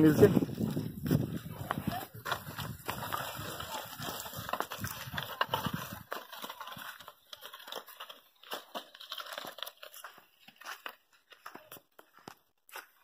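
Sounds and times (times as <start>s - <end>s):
wooden plough scraping soil: 0.0s - 11.0s
hooves crunching on dry soil: 0.0s - 13.0s.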